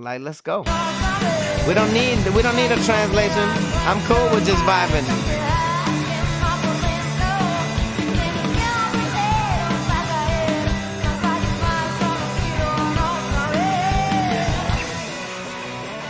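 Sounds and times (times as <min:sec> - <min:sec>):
driving drum beat: 0:00.6 - 0:15.5
person singing: 0:00.7 - 0:15.1
live rock band playing: 0:00.7 - 0:16.0.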